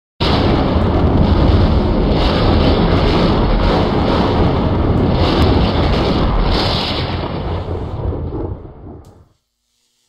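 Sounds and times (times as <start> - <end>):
deep thunder-like rumble: 0.2 - 9.3
electrical arcing crackling: 0.2 - 10.0.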